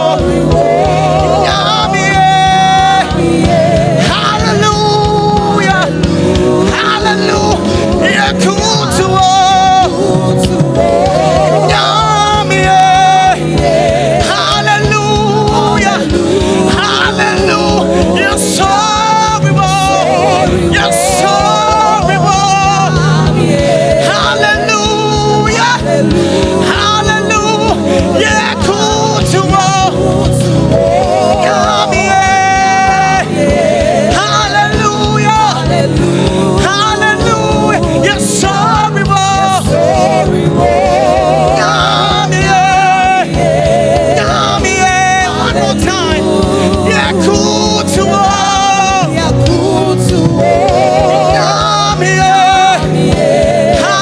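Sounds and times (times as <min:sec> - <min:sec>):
band with drum beat: 0:00.0 - 0:54.0
voices singing with vibrato: 0:00.0 - 0:54.0.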